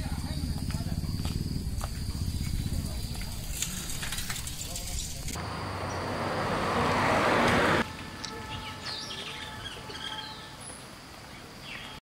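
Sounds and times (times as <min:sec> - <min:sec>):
quiet park ambience: 0:00.0 - 0:12.0.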